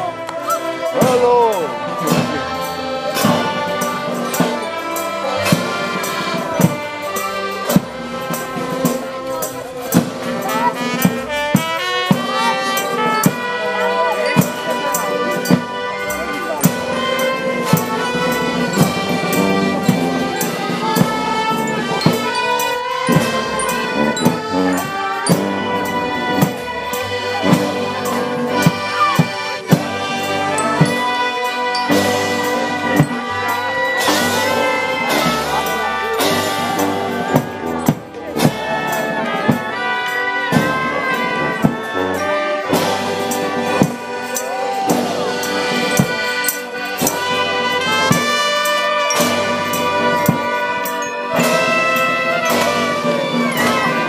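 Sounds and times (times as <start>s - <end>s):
live brass and accordion music: 0.0s - 54.0s
percussive strikes: 0.0s - 54.0s.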